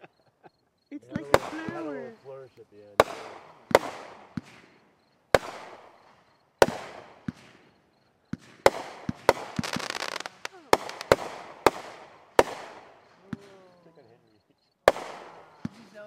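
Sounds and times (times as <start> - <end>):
fireworks booming: 1.1 - 16.0
fireworks crackling: 1.1 - 16.0.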